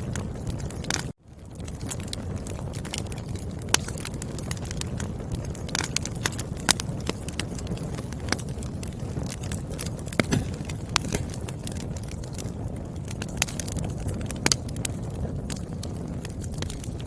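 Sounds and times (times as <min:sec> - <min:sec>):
firewood crackling and popping: 0:00.0 - 0:17.0
low rumble of flame: 0:00.0 - 0:17.0.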